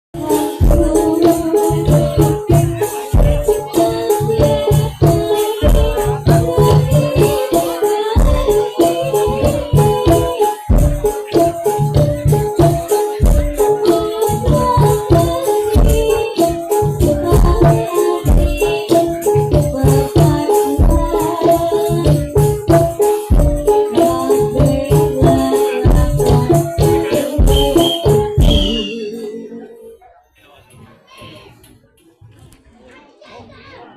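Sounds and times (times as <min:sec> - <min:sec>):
bright rattling percussion: 0:00.2 - 0:29.4
heavy bass drum beats: 0:00.2 - 0:29.5.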